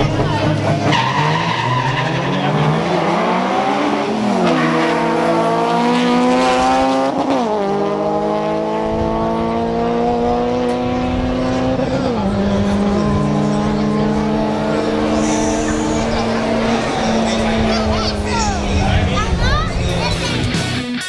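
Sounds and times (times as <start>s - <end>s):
car engines at full throttle: 0.0s - 20.9s.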